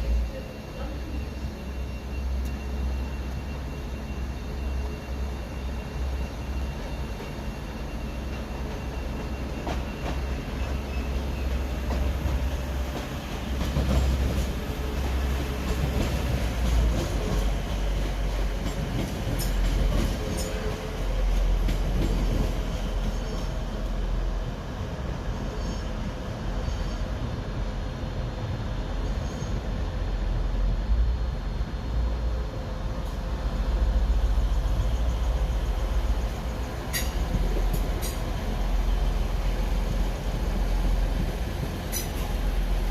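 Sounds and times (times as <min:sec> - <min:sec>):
train wheel squeals: 0:00.0 - 0:27.4, 0:28.8 - 0:30.2, 0:32.9 - 0:42.9
train rumbling: 0:00.0 - 0:42.9.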